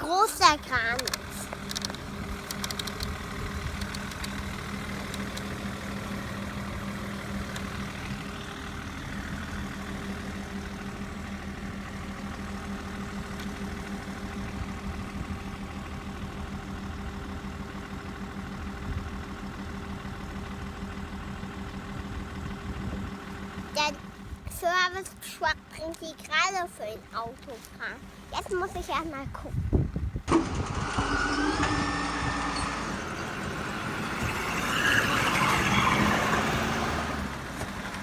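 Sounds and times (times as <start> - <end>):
engine idling drone: 0.2 - 24.5, 30.0 - 38.0.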